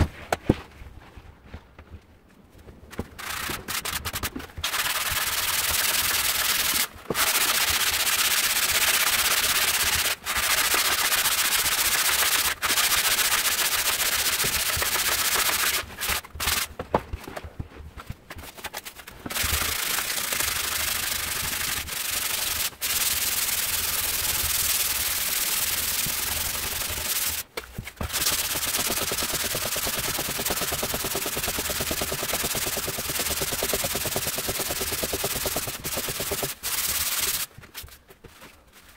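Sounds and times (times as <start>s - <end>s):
sandpaper scratching wood: 3.0s - 16.7s, 18.4s - 37.9s.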